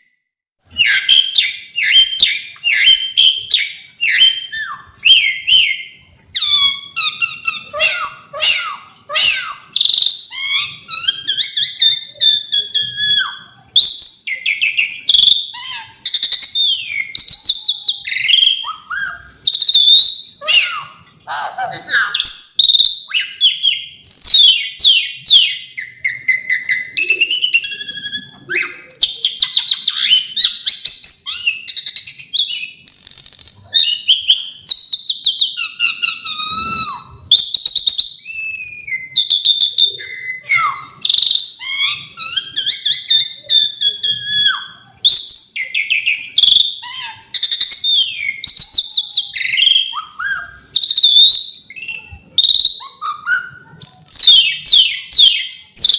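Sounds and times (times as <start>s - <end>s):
starling singing: 0.0s - 55.9s.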